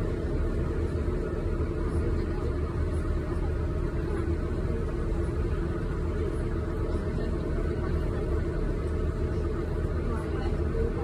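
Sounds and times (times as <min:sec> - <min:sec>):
ferry engine rumbling: 0:00.0 - 0:11.0.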